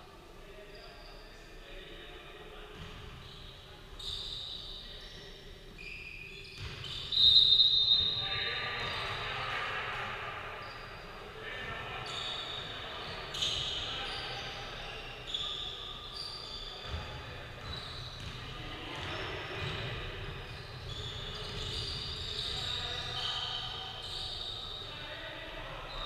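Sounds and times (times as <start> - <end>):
sneaker squeaks: 0.6 - 1.6, 2.7 - 9.6, 10.5 - 26.0.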